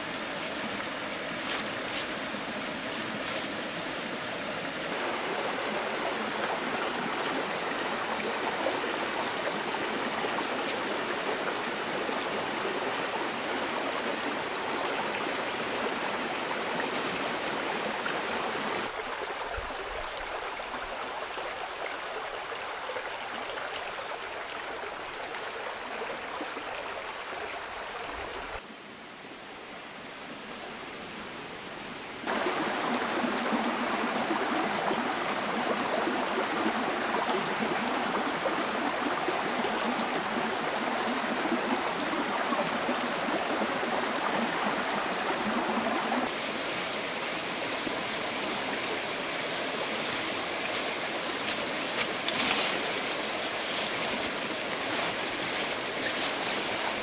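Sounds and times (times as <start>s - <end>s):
stream flowing: 0.0s - 28.7s, 31.7s - 57.0s.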